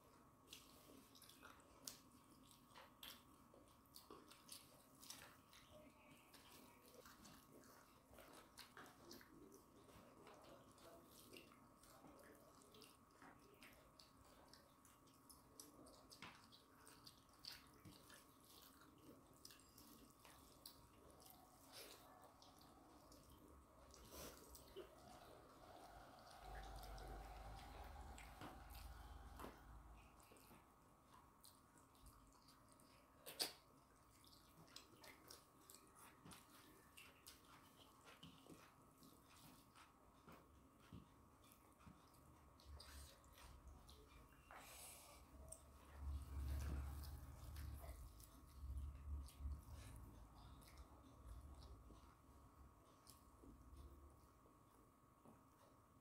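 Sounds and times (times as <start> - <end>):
chewing: 0.0 - 56.0
fingers mixing wet food: 0.0 - 56.0.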